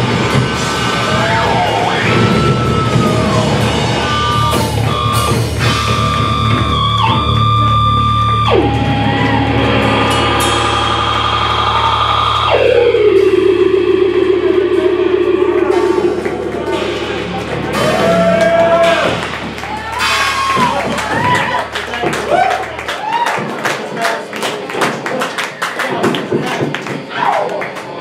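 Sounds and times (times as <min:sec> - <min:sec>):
distorted electric bass: 0:00.0 - 0:23.2
drum kit: 0:00.0 - 0:27.2.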